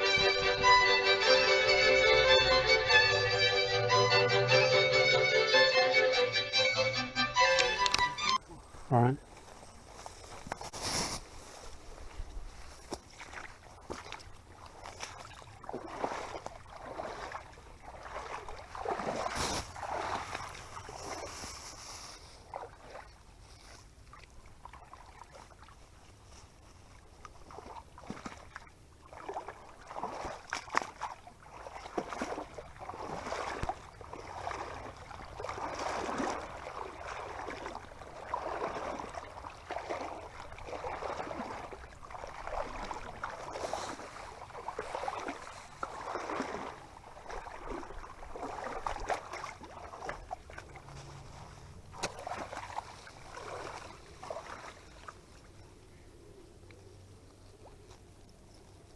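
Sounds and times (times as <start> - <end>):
water sloshing and splashing: 8.0 - 55.7.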